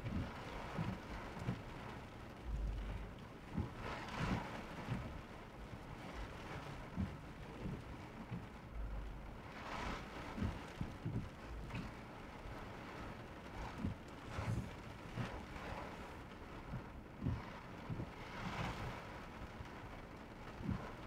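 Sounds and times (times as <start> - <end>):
rain falling on a car: 0.0 - 21.0.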